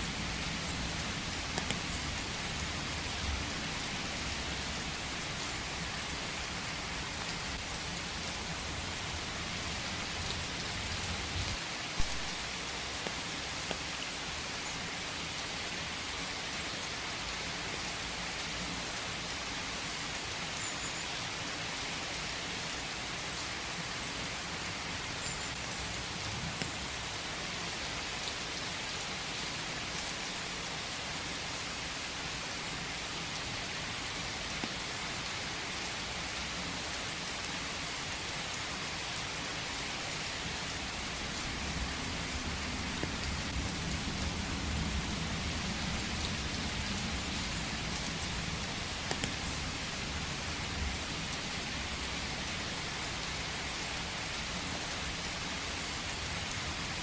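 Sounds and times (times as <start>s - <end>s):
rain patter in forest: 0.0s - 57.0s.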